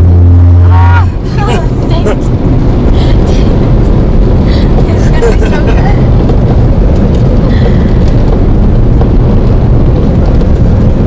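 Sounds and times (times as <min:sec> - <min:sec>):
car cabin road and wind rumble: 0:00.0 - 0:11.0.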